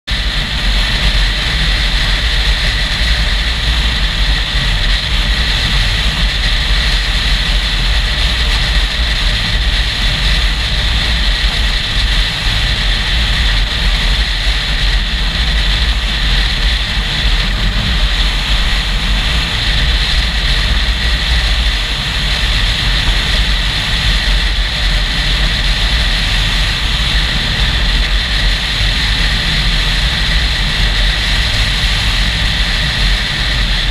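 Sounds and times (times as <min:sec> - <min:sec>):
motorcycle engine: 0:00.1 - 0:33.9
wind buffeting microphone: 0:00.1 - 0:33.9.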